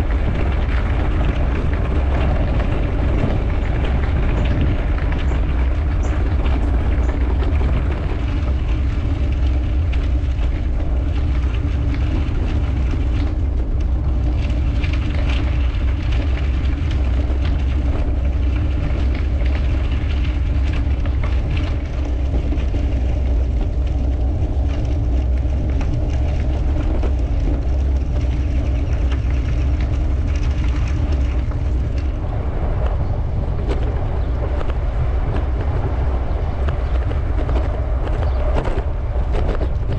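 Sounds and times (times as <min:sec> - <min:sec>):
bicycle tyres rolling on gravel: 0:00.0 - 0:39.9
wind buffeting microphone: 0:00.0 - 0:39.9.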